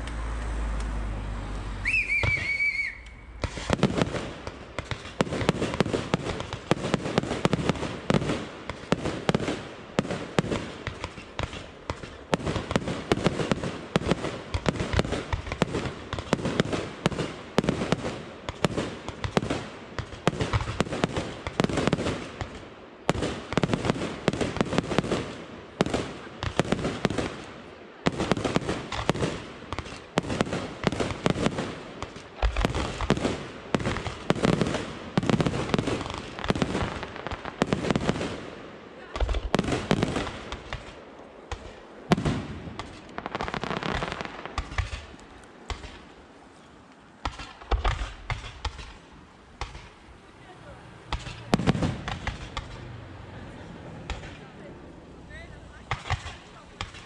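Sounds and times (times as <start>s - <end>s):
fireworks crackling: 0.0s - 57.0s
fireworks bangs: 1.8s - 57.0s.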